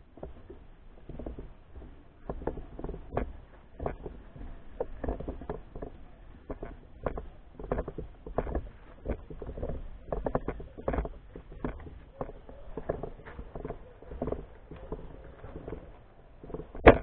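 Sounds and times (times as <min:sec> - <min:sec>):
footsteps and camera knocks: 0:00.0 - 0:17.0.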